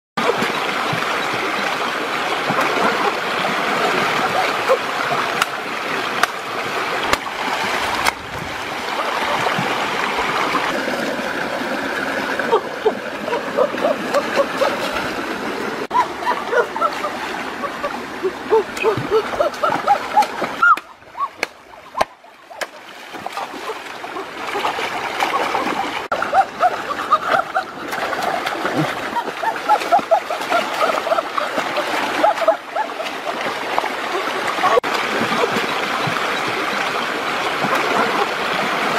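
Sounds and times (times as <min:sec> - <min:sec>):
stream rushing over rocks: 0:00.2 - 0:38.9.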